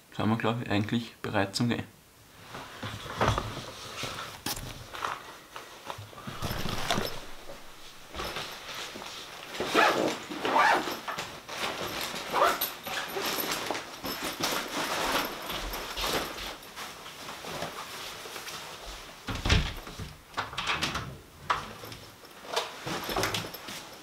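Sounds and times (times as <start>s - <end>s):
backpack and clothing rustling: 2.3s - 20.0s, 21.6s - 24.0s.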